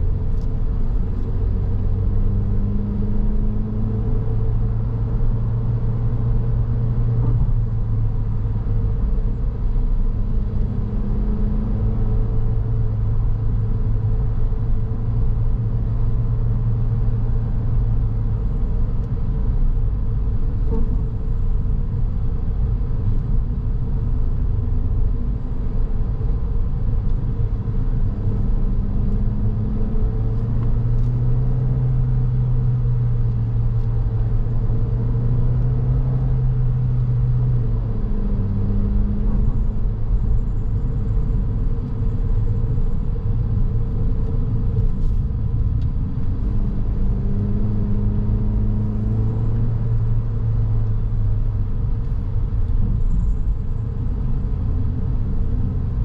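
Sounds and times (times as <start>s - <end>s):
car engine hum: 0.0s - 56.0s
road and tyre rumble: 0.0s - 56.0s.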